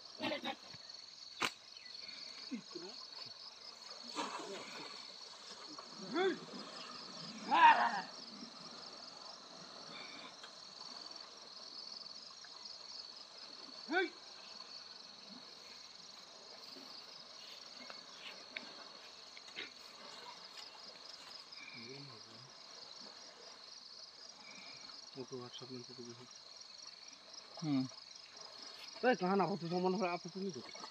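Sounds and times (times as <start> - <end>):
crickets chirring: 0.0 - 30.9.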